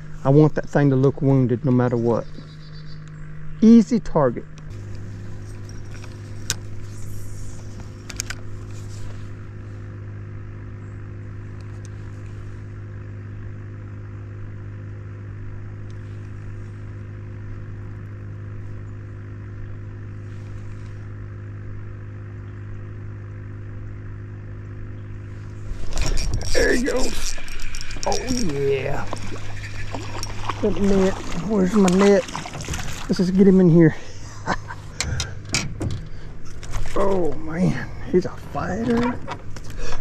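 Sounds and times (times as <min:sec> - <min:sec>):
low motor hum: 0:00.0 - 0:40.0.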